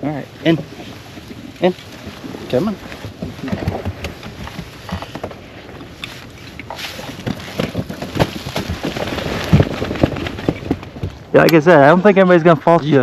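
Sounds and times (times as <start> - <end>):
rustling: 0.1 - 11.5.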